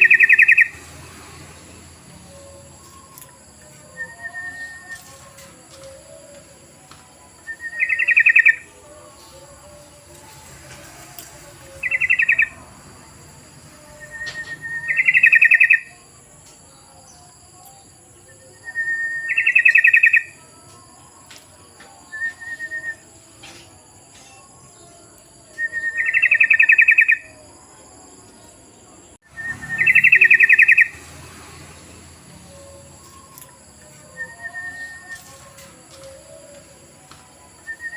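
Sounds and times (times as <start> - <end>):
bird song with rapid trills: 0.0 - 37.9.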